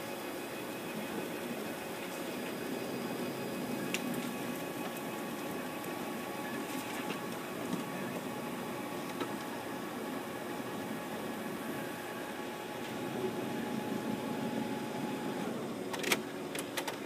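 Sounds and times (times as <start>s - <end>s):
printer running startup: 0.0s - 17.0s.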